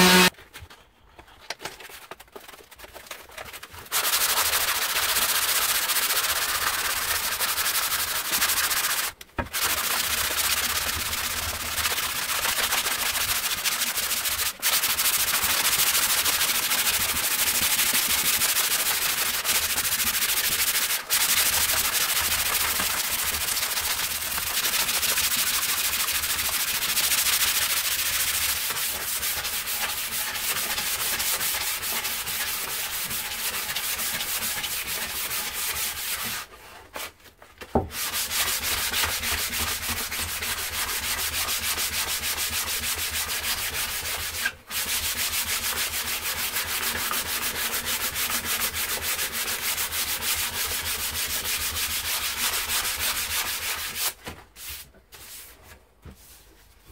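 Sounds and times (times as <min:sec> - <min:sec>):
sandpaper rubbing on wood: 0:00.0 - 0:00.3, 0:03.8 - 0:37.1, 0:37.9 - 0:55.6.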